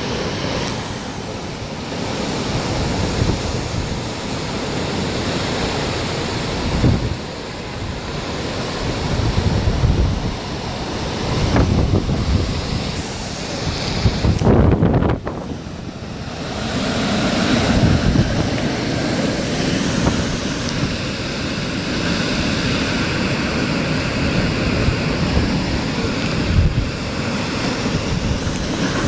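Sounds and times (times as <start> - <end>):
strong wind rushing: 0.0 - 29.0
wind buffeting microphone: 0.0 - 29.0.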